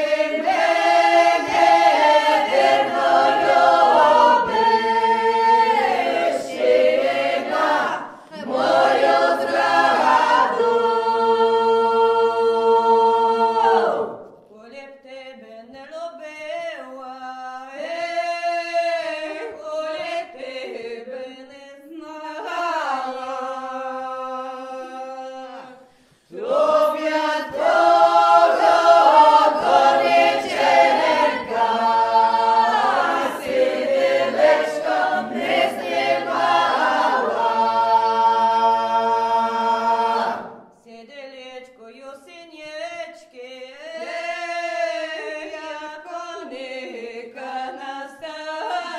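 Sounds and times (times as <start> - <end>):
unaccompanied folk vocal ensemble: 0.0 - 48.9.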